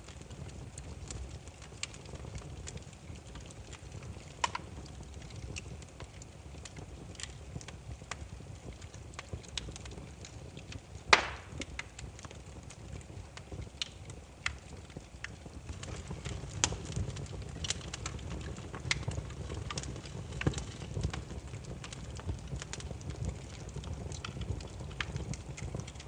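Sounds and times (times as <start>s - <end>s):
firewood crackling and popping: 0.0s - 26.0s
low rumble of flames: 0.0s - 26.0s.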